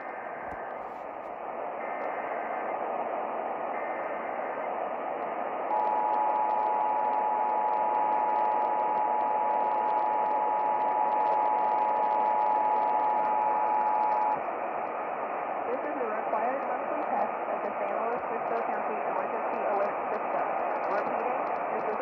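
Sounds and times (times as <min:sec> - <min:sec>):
radio static: 0:00.0 - 0:22.0.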